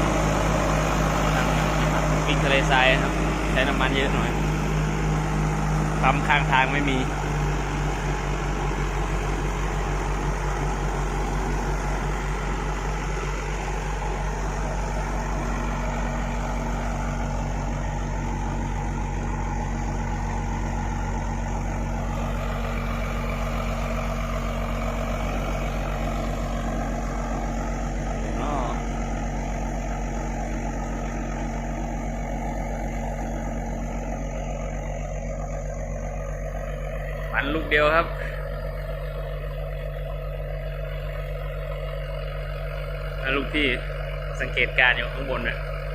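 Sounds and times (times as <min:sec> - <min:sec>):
diesel truck engine running: 0:00.0 - 0:45.9.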